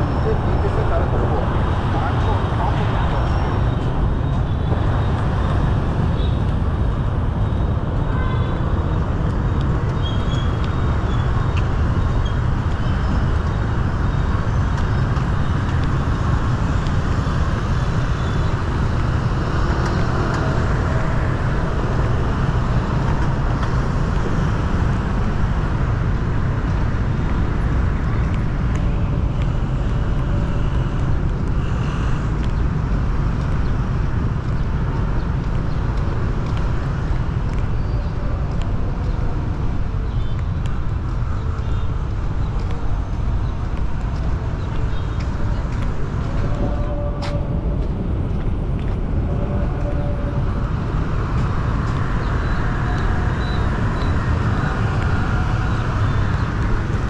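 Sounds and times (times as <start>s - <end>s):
passing traffic rumble: 0.0s - 57.0s.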